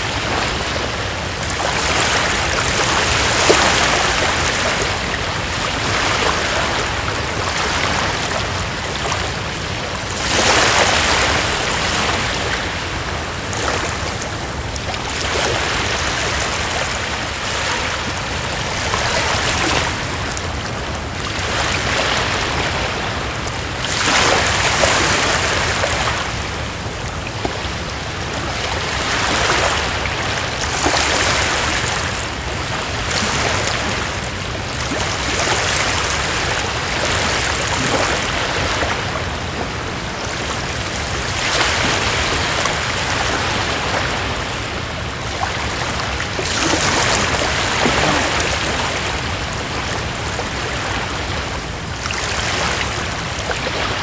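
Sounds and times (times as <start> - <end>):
waves washing over rocks: 0.0 - 54.0.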